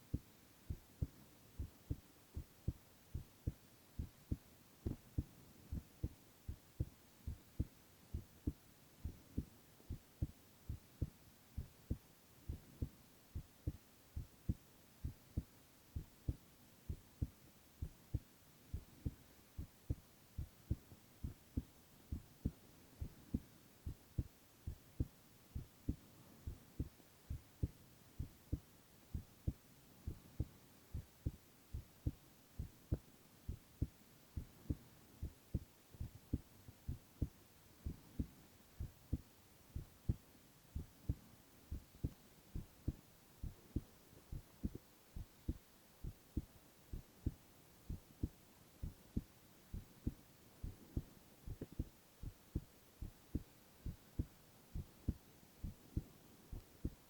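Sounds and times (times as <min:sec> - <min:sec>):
heartbeat thumps: 0:00.0 - 0:40.2, 0:40.8 - 0:57.0
faint hiss: 0:00.0 - 0:57.0.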